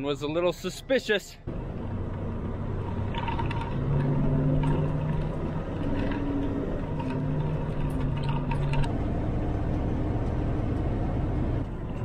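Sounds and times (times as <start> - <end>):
truck engine humming: 1.3 - 12.0.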